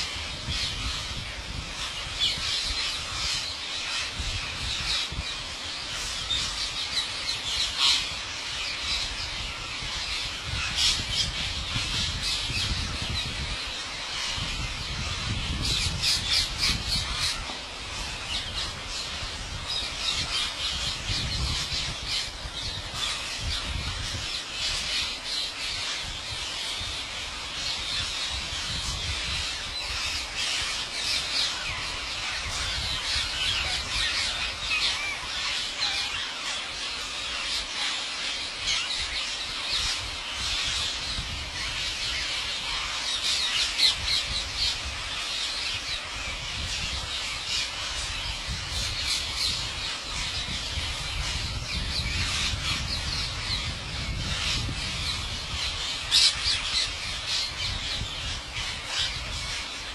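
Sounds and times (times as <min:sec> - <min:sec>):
parakeets screeching: 0:00.0 - 0:59.9.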